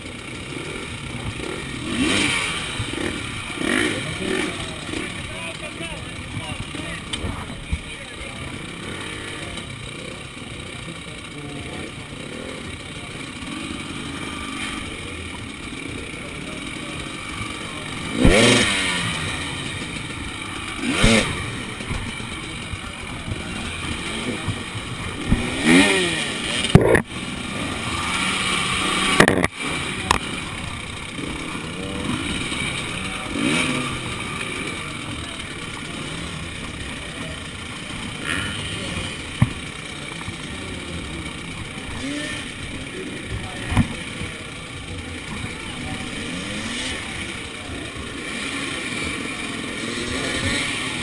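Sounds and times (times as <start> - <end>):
dirt bike engines idling: 0.0 - 51.0
dirt bike throttle revs: 0.0 - 51.0.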